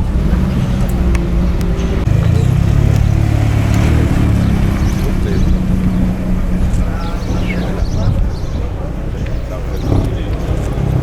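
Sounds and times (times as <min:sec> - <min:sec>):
car engines low rumble: 0:00.0 - 0:11.0
deeper engine note: 0:00.0 - 0:11.0.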